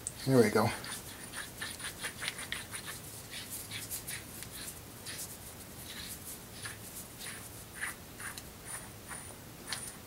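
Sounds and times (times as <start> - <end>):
hands scratching metal workpiece: 0.2 - 9.8.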